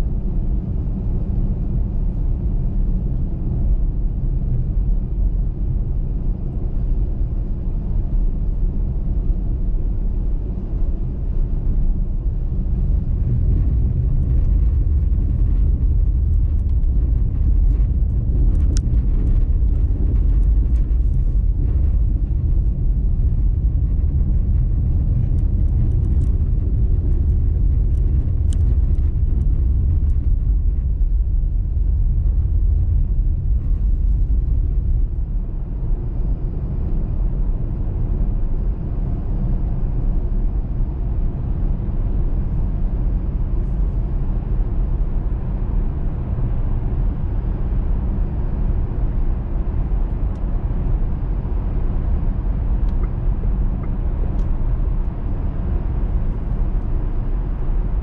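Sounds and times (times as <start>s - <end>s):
car tyres and engine rumble: 0.0s - 58.0s.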